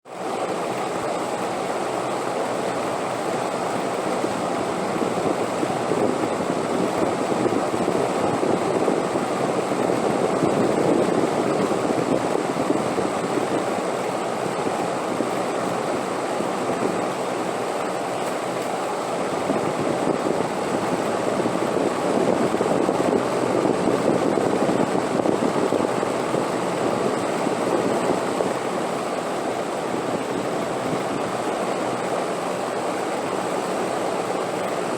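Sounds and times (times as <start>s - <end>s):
wind: 0.0s - 34.9s.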